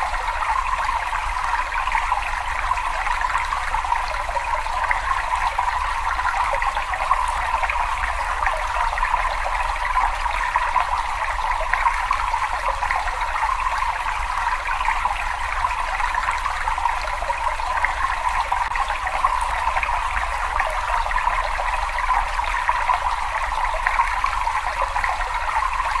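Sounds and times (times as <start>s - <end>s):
water trickling and splashing: 0.0s - 26.0s.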